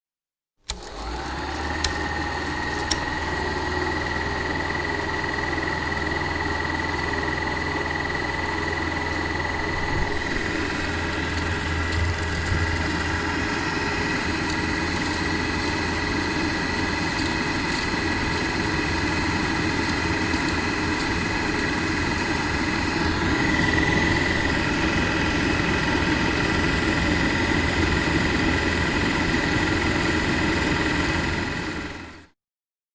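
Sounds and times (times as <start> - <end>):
film projector whirring: 0.7 - 32.3.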